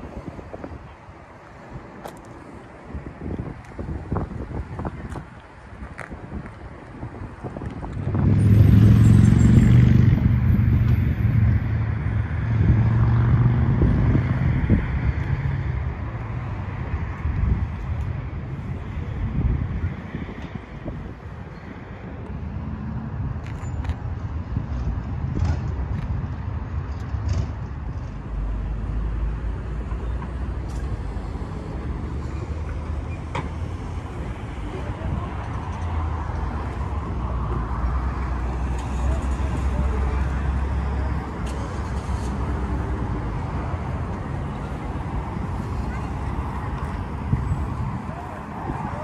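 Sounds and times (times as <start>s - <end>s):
steady low traffic rumble: 0.0s - 49.0s
vehicles passing: 0.0s - 49.0s.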